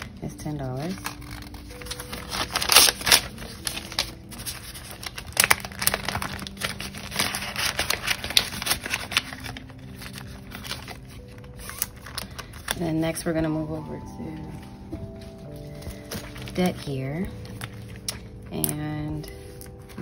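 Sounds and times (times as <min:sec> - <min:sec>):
paper banknotes rustling: 0:00.0 - 0:20.0
plastic pouch crinkling: 0:00.0 - 0:20.0.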